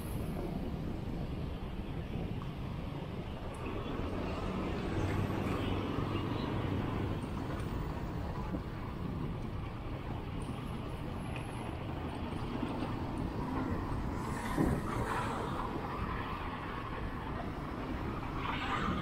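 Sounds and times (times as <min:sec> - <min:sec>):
road traffic: 0:00.0 - 0:19.0
wind noise on microphone: 0:00.0 - 0:19.0.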